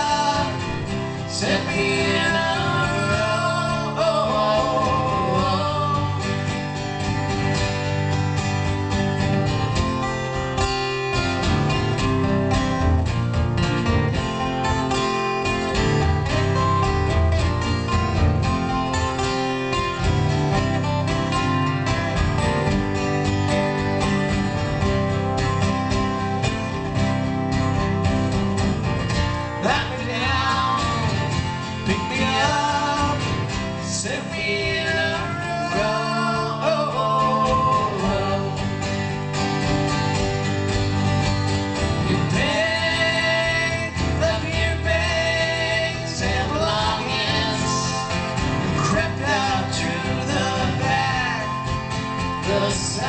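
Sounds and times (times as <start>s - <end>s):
live country rock band: 0.0s - 53.0s
strummed acoustic guitar: 0.0s - 53.0s.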